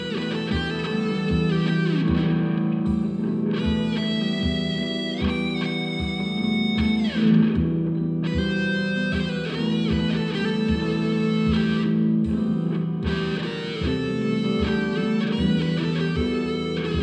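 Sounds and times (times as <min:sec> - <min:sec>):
guitar music with low beat: 0:00.0 - 0:17.0.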